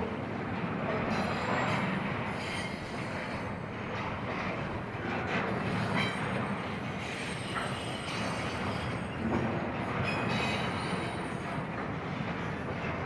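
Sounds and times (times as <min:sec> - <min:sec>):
freight train rumbling past: 0:00.0 - 0:13.0
train wheel squeals: 0:01.0 - 0:13.0.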